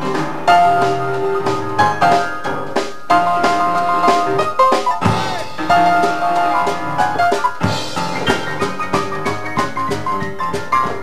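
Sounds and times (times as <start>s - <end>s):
drum kit beat: 0.0s - 11.0s
jazz band playing: 0.0s - 11.0s
upright piano: 0.0s - 11.0s.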